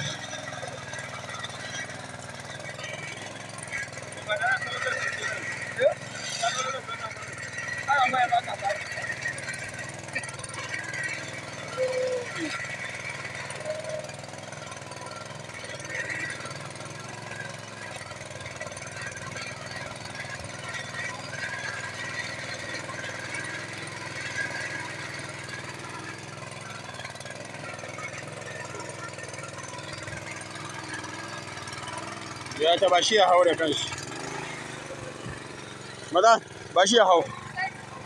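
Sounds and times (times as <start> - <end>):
small petrol engine running: 0.0 - 38.0.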